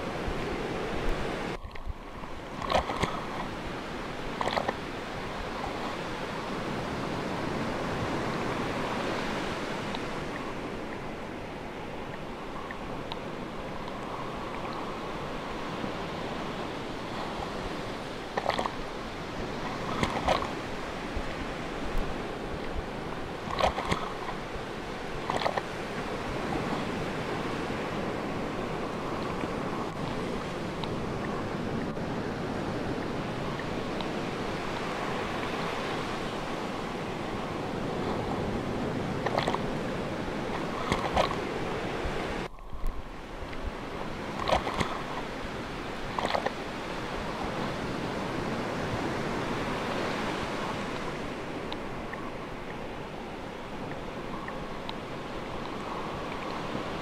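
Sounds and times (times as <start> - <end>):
sea surf washing: 0.0 - 57.0.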